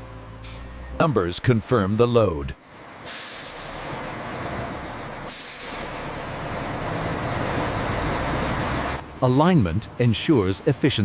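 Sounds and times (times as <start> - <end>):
heavy truck engine rumble: 0.0 - 11.0.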